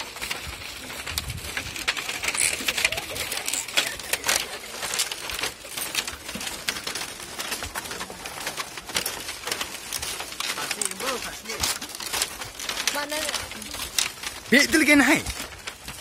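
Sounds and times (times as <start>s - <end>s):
footsteps knocking bamboo slats: 0.0s - 16.0s.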